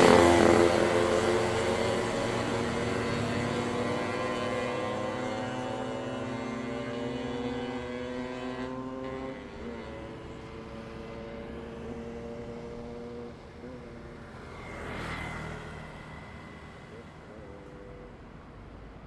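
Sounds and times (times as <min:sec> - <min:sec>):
vehicle passing by: 0:00.0 - 0:18.1
vehicle engine humming: 0:00.0 - 0:18.7.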